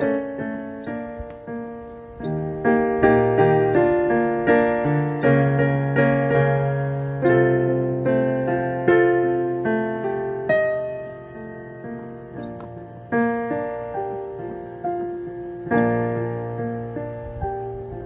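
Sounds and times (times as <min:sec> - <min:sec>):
keyboard piano chords: 0:00.0 - 0:18.0.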